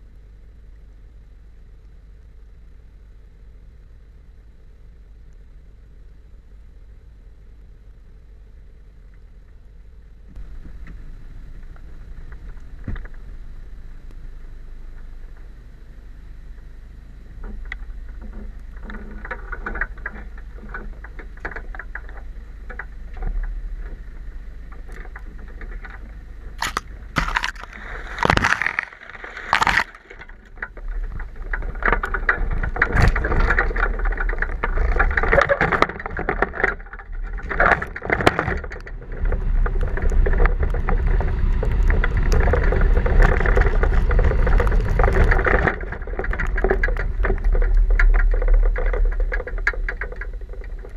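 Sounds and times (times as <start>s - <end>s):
engine and tyres rumbling: 0.0s - 50.9s.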